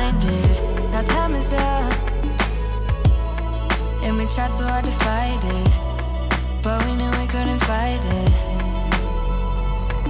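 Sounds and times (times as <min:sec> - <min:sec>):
song with bass and drums: 0:00.0 - 0:10.0.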